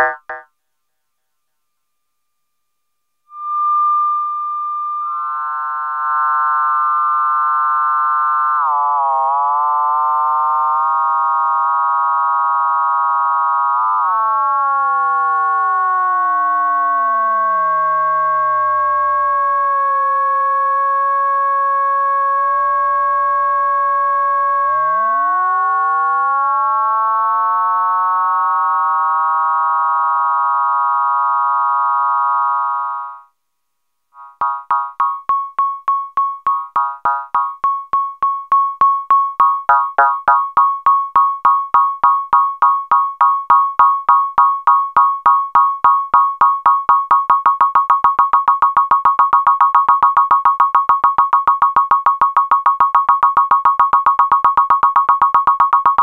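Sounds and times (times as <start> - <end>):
frequency-modulated synth tone: 0.0 - 0.4, 3.3 - 33.3, 34.2 - 56.0.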